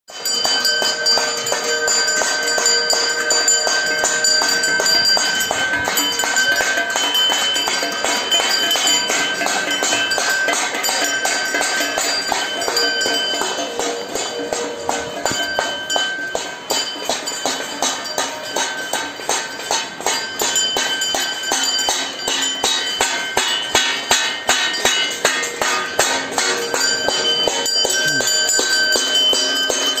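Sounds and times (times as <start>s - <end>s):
bell ringing rapidly: 0.1s - 30.0s.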